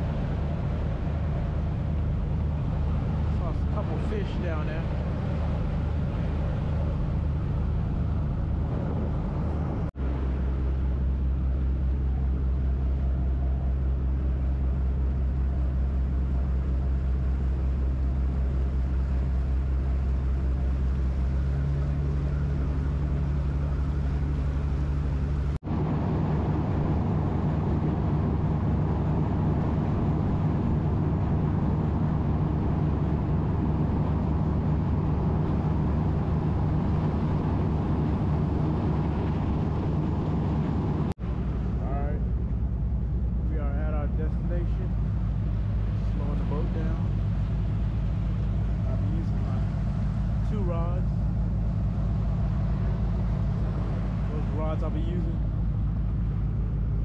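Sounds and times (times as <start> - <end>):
boat engine drone: 0.0 - 57.0
water rushing along hull: 0.0 - 57.0.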